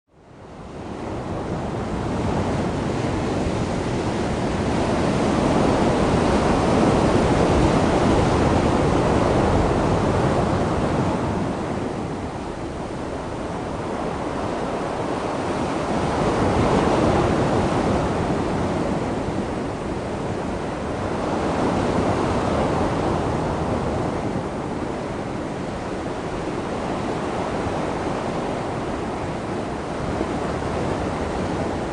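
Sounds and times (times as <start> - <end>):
sea waves washing ashore: 0.2 - 31.9.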